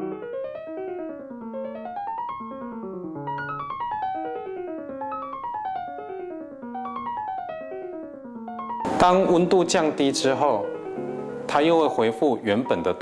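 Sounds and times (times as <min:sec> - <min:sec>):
piano playing falling runs: 0:00.0 - 0:13.0.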